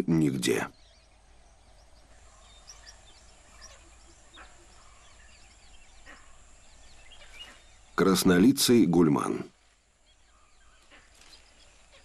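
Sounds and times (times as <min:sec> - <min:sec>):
bird chirps and calls: 0:00.1 - 0:12.0.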